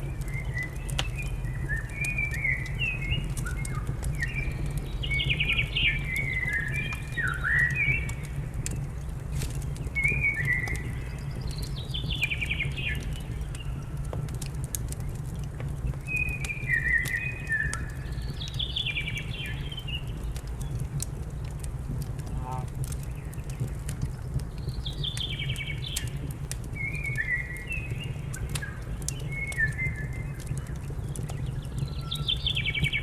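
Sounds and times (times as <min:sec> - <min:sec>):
songbird singing: 0:00.0 - 0:08.4, 0:09.0 - 0:14.4, 0:15.0 - 0:21.5, 0:22.3 - 0:33.0
wood fire crackling: 0:00.0 - 0:33.0.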